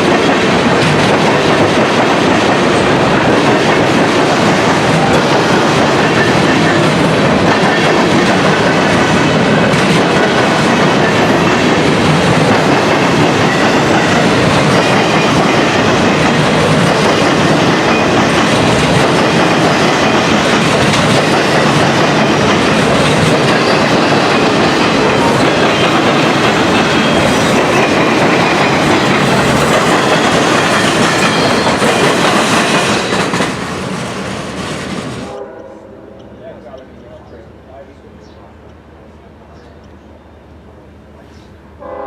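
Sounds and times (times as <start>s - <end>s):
freight train wheels clattering: 0.0s - 35.4s.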